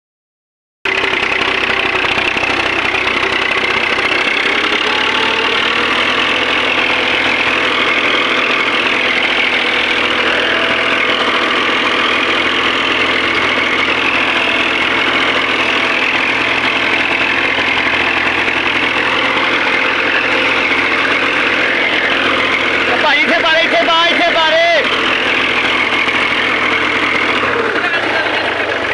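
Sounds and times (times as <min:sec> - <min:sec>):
tractor engine running: 0:00.9 - 0:28.9.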